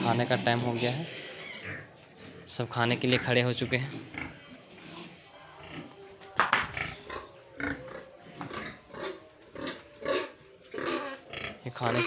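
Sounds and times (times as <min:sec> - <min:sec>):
pigs grunting and squealing: 0:00.0 - 0:06.0, 0:06.7 - 0:12.0.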